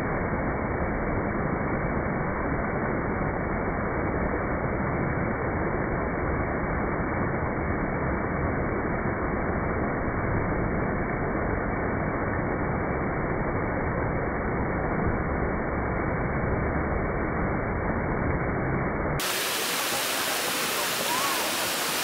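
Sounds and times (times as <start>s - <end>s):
water rushing down cascade: 0.3s - 22.0s.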